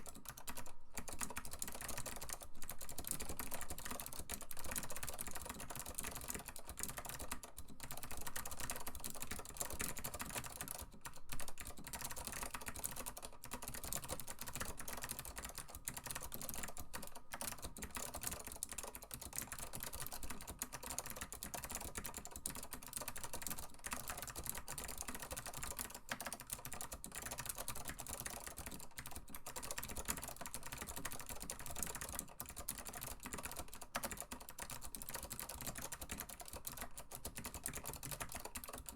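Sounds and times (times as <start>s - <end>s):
fast typing on clicky keyboard: 0.0s - 38.9s.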